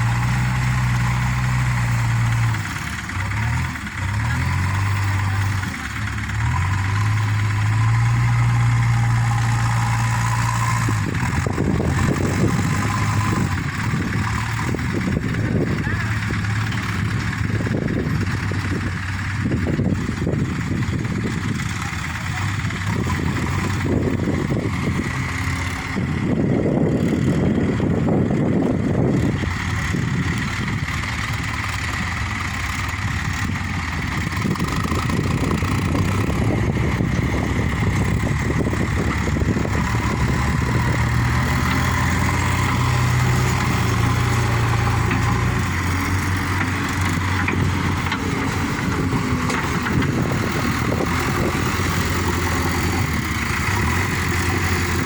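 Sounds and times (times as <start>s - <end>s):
heavy diesel machinery engine: 0.0s - 55.0s.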